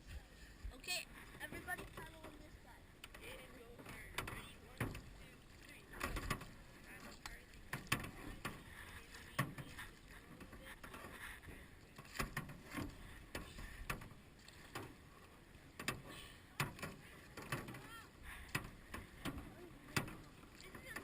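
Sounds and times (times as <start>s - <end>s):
canoe paddles in water: 0.0s - 21.0s
paddle shafts knocking canoe: 0.7s - 21.0s.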